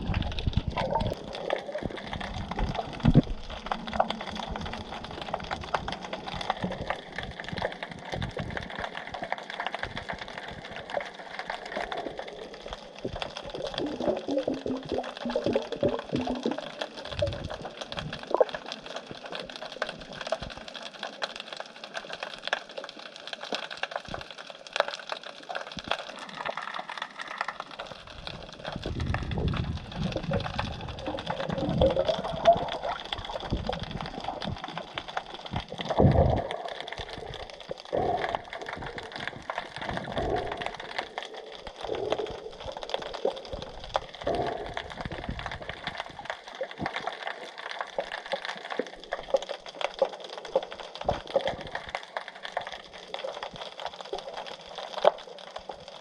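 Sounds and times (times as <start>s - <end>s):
water swishing: 0.0s - 22.1s, 25.0s - 55.9s
underwater crackling clicks: 0.0s - 56.0s.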